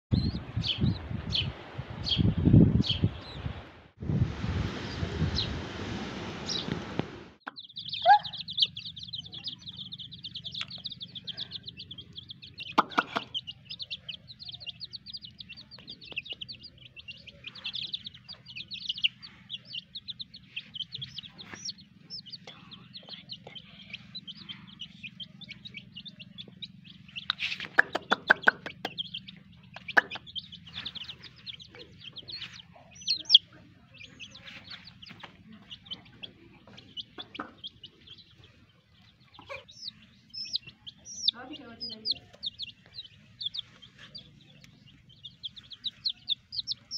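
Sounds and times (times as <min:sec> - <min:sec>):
chicks peeping: 0:00.1 - 0:03.7, 0:04.6 - 0:05.6, 0:06.4 - 0:46.9.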